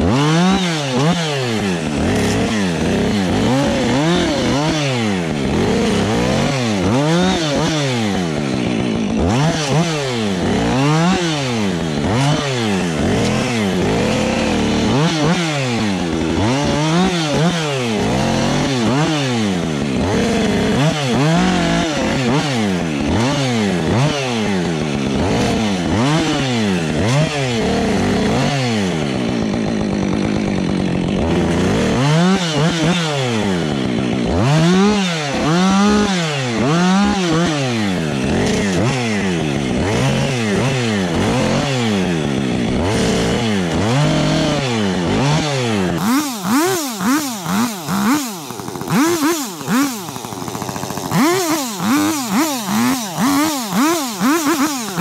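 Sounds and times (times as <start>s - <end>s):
chainsaw revving and cutting: 0.0s - 55.0s.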